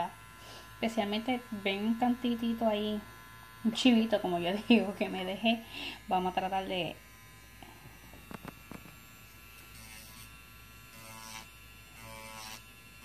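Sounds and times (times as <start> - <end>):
electric nail drill humming: 0.0 - 13.0
whine and scratchy hiss of filing: 0.0 - 13.0.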